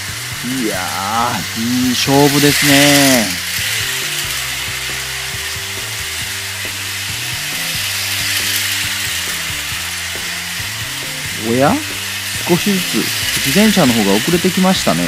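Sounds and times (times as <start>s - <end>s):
toy train motors whirring: 0.0s - 15.0s.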